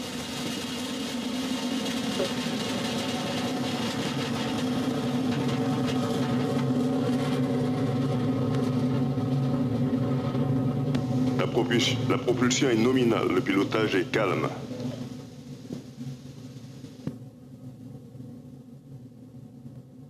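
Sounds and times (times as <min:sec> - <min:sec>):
rocket motor roaring: 0:00.0 - 0:18.8.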